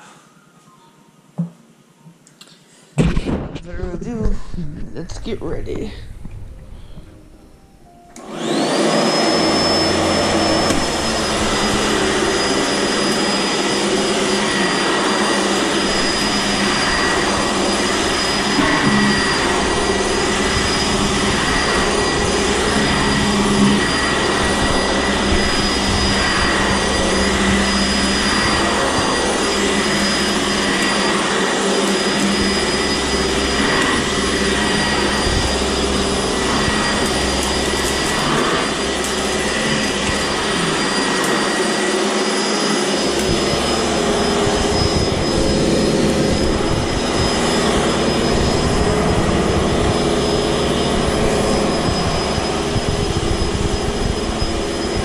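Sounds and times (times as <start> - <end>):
vacuum cleaner motor whine: 6.2 - 55.0.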